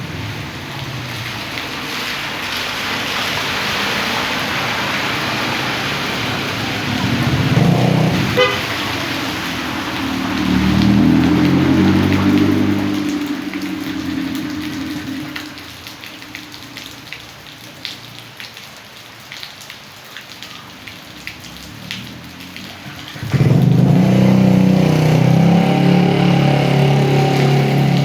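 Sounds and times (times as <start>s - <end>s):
raindrops pattering: 0.0s - 28.0s
steady rain: 0.0s - 28.0s.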